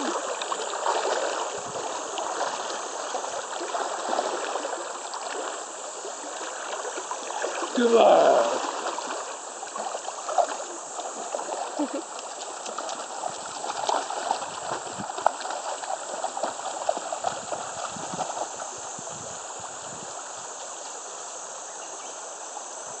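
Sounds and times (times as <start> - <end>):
dog splashing in water: 0.0 - 19.0
river running over stones: 0.0 - 21.6.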